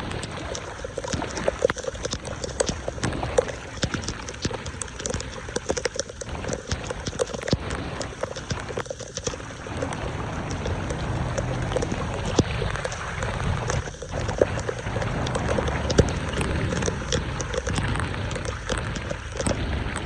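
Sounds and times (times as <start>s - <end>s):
water rushing into storm drain: 0.0s - 20.0s.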